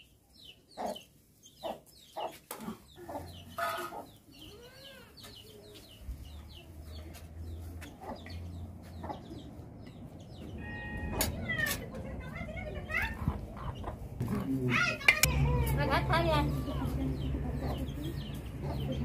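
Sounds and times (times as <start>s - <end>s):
chickens clucking: 0.0s - 15.7s, 17.1s - 19.0s.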